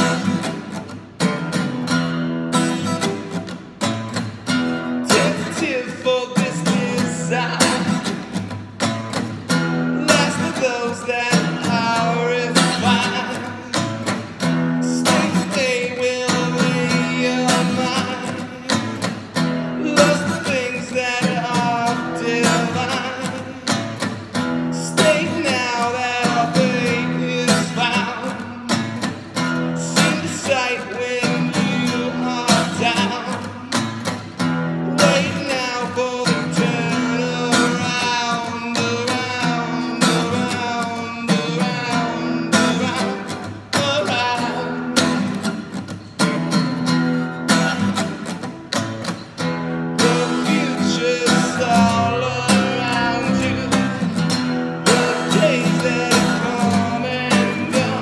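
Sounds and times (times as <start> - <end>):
man singing: 0.0 - 0.7, 4.7 - 8.6, 9.4 - 45.8, 47.4 - 48.7, 49.7 - 58.0
acoustic guitar strumming: 0.0 - 58.0.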